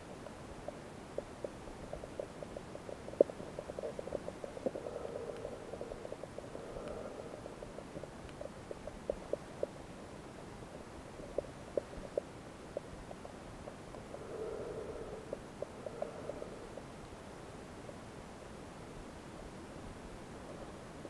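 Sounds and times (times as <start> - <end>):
muffled underwater clicks and crackles: 0.0 - 19.1, 19.9 - 21.0
underwater water noise: 0.1 - 19.1.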